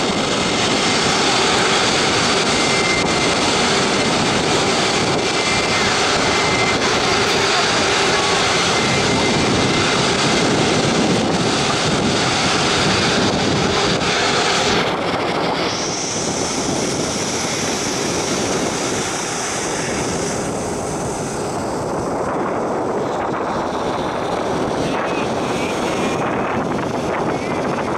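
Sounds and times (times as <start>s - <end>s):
high-pitched engine whine: 0.0s - 27.9s
jet engines rushing: 0.0s - 27.9s.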